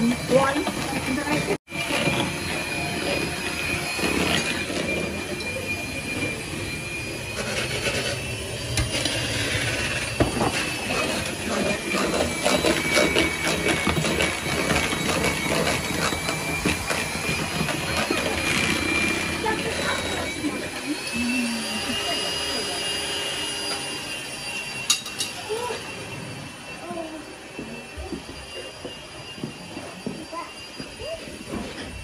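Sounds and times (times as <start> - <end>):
electric hand mixer whining: 0.0 - 32.0.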